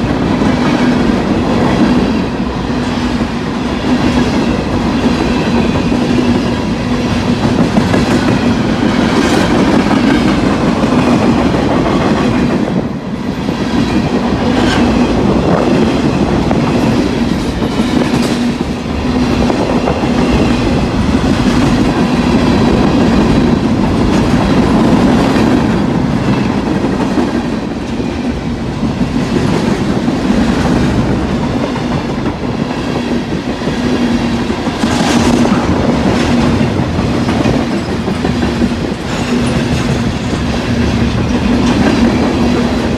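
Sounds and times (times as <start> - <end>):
freight train rumble: 0.0 - 42.9
train wheels clacking on rails: 0.0 - 42.9.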